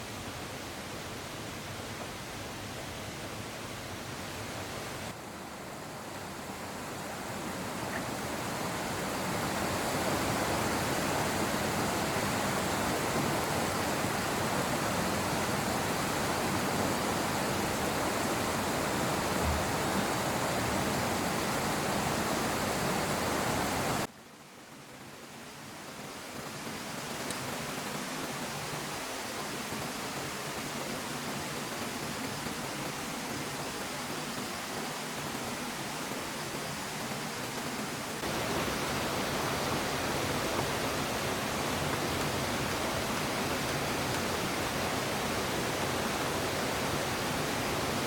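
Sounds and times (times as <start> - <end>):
flowing water rushing: 0.0 - 24.1, 24.7 - 48.0.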